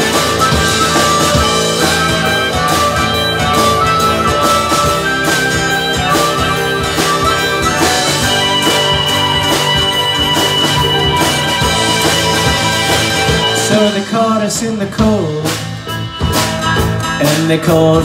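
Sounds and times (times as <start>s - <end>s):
harmonica: 0.0s - 17.8s
drum kit: 0.0s - 18.0s
strummed acoustic guitar: 0.0s - 18.0s.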